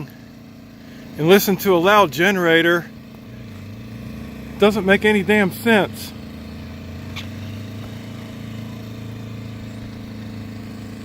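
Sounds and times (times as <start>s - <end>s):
generator engine drone: 0.0s - 11.0s.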